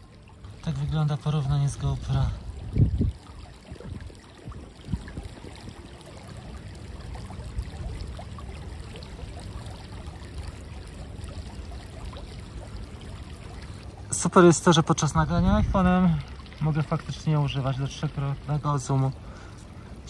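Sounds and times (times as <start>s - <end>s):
creek flowing and trickling: 0.0s - 20.0s.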